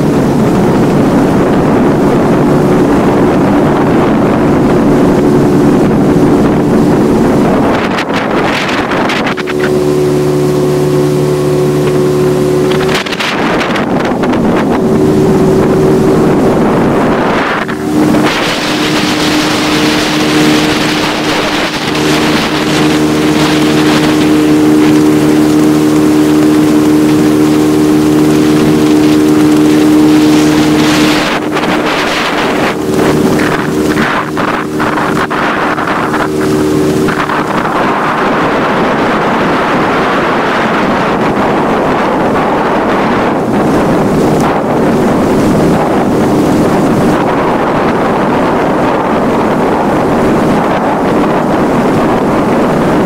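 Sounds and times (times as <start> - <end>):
motorboat engine running: 0.0 - 53.0
water rushing: 0.0 - 53.0
wind buffeting microphone: 0.0 - 53.0.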